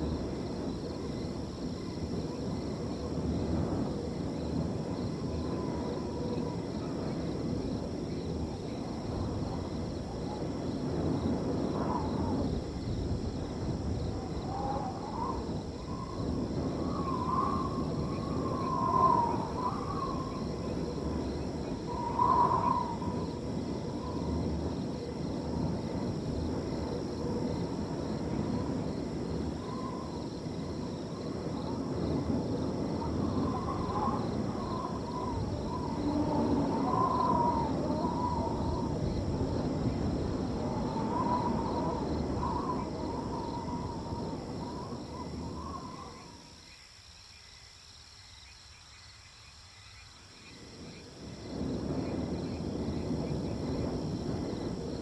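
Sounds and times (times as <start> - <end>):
wind blowing: 0.0 - 46.8, 50.2 - 55.0
crickets trilling: 0.0 - 55.0.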